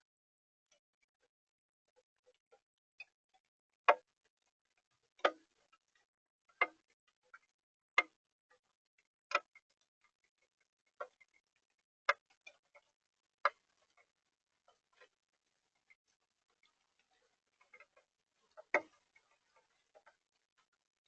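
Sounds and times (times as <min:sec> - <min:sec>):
faint small drip ticks: 0:01.9 - 0:21.0
rainwater dripping: 0:04.0 - 0:21.0.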